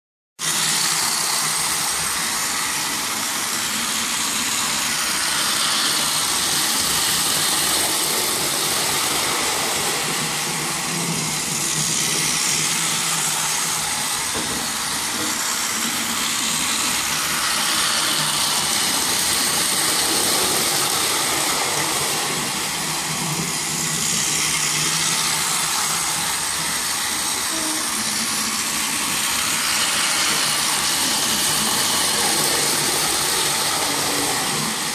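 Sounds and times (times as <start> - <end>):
toy train motor whirring: 0.4 - 34.9.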